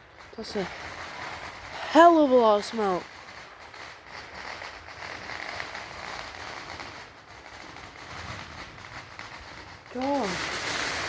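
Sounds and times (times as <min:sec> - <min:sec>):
distant fireworks crackling and popping: 0:00.0 - 0:11.0
steady outdoor hiss: 0:00.0 - 0:11.0.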